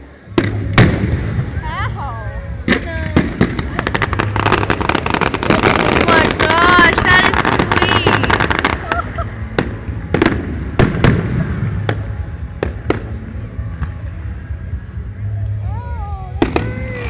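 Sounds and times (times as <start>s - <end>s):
fireworks crackling and banging: 0.0s - 15.6s, 16.3s - 17.0s.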